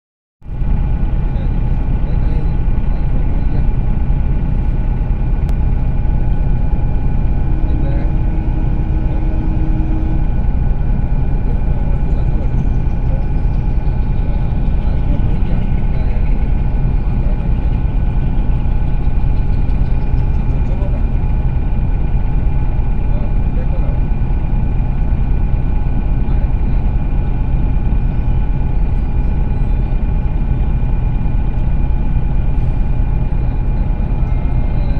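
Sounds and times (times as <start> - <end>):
bus engine idling: 0.4 - 34.9.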